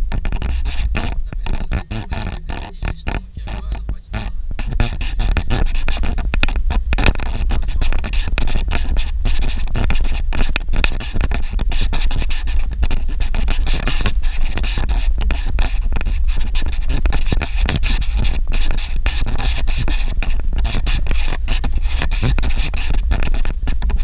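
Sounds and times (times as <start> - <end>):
scraping knocks: 0.0 - 24.0
wind buffeting microphone: 0.0 - 24.0.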